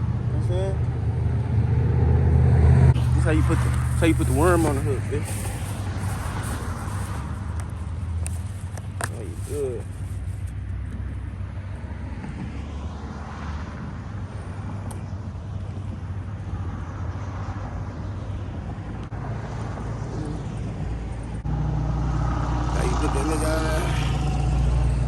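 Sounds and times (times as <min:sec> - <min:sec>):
cars passing by: 0:00.0 - 0:25.0
low traffic rumble: 0:00.0 - 0:25.0.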